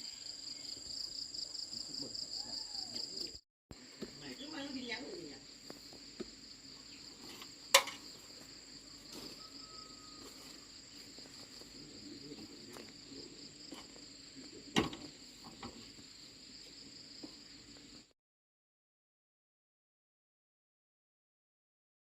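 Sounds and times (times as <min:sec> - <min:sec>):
crickets chirring: 0:00.0 - 0:18.1.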